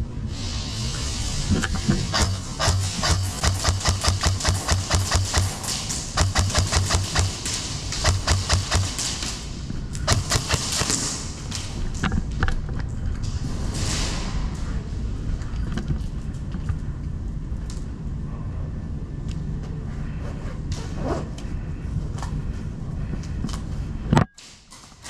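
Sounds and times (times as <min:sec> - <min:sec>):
handling noise rumble: 0:00.0 - 0:24.0.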